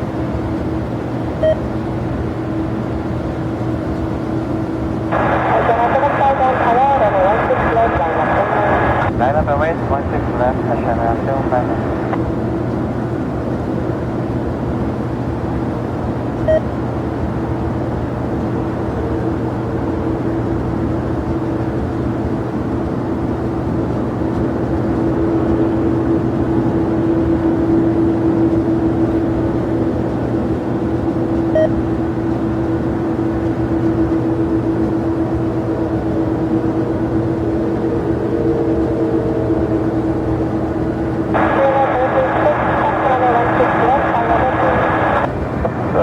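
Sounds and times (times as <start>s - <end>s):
jet engines humming: 0.0s - 46.0s.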